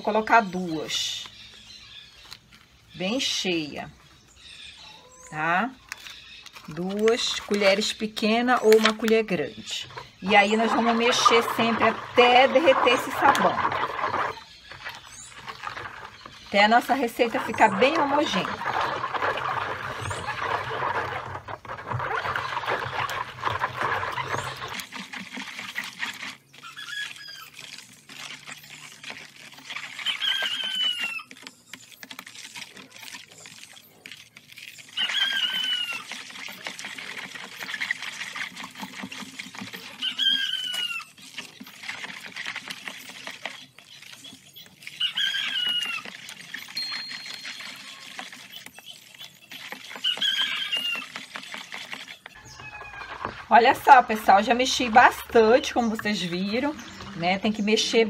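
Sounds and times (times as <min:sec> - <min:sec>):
soapy water swishing: 0:05.9 - 0:58.0.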